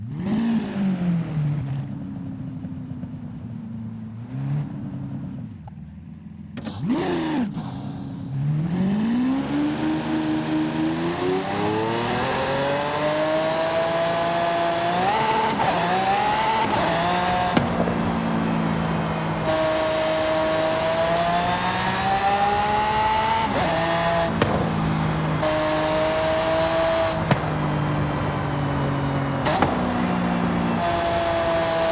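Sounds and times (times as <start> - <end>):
car engine revving and accelerating: 0.0 - 2.1, 6.6 - 31.9.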